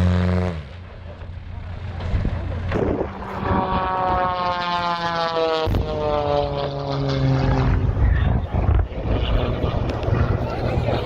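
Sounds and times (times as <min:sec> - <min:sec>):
propeller airplane engine droning: 0:00.0 - 0:11.0.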